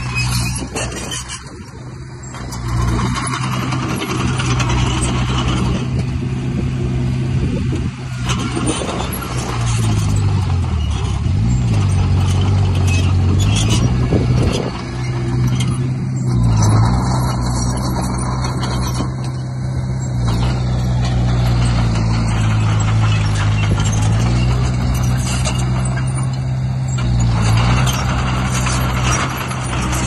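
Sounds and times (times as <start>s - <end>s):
heavy diesel engine working: 0.0s - 30.0s.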